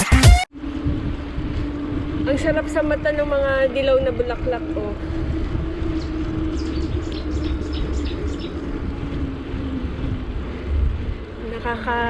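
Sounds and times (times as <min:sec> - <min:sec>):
bicycle riding hum: 0:00.6 - 0:12.0
wind buffeting microphone: 0:00.6 - 0:12.0.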